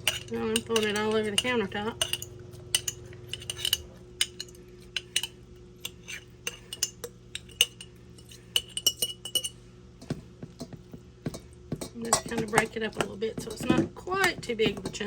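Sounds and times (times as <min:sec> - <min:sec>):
fork clinking against a bowl: 0:00.0 - 0:15.0.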